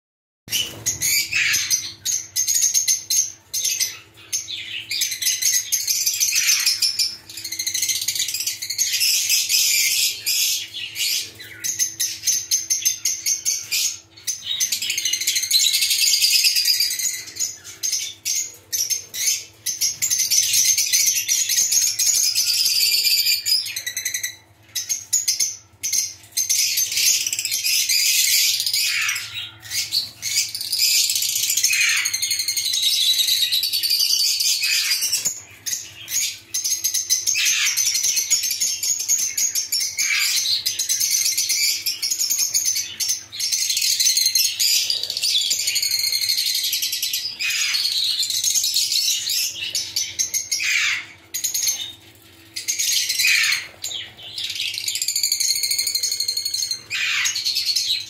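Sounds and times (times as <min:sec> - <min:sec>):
birds chattering and chirping: 0:00.5 - 0:58.0.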